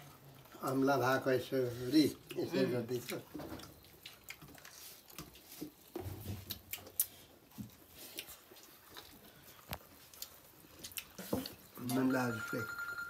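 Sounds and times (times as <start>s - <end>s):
people chewing food: 0.0s - 12.4s.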